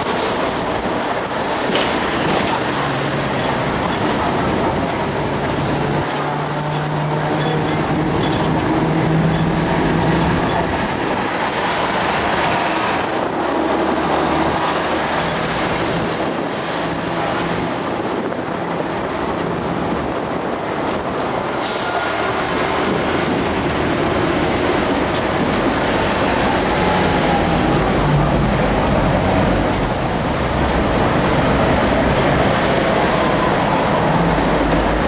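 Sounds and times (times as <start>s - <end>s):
tram wheels on rails: 0.0s - 35.0s
wind: 0.0s - 35.0s.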